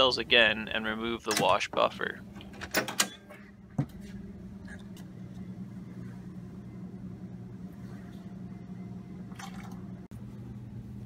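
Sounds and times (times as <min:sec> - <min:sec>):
equipment and ventilation hum: 0:00.0 - 0:11.0.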